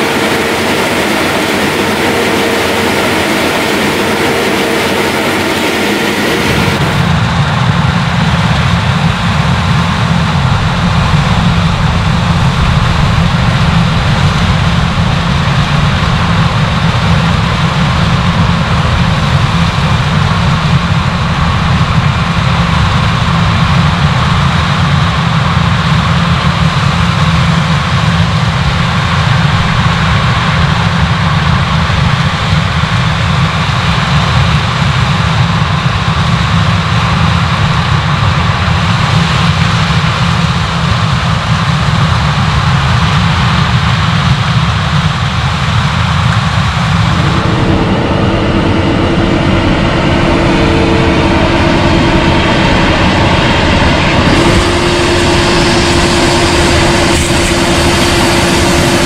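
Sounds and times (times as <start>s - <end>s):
diesel farm machinery droning: 0.0s - 59.0s.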